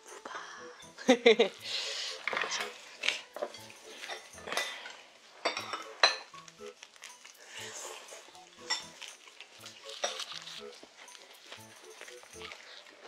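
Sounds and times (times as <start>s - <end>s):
chopsticks clinking against bowls: 1.2s - 13.0s.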